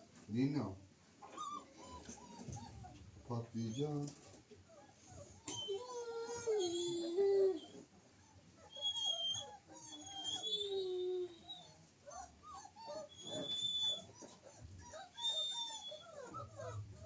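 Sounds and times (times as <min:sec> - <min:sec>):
dogs whining: 0:01.2 - 0:17.0.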